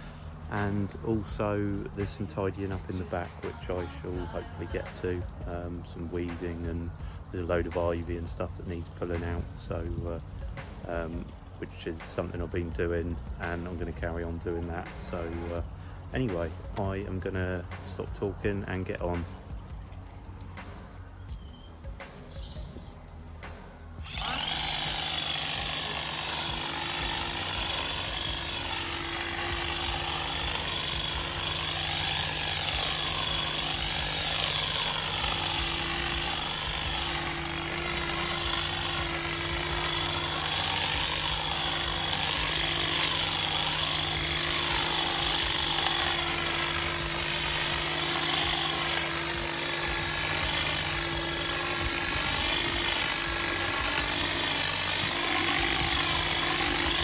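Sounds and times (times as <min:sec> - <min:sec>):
power hedge trimmer running: 0:00.0 - 0:19.3, 0:21.4 - 0:57.0.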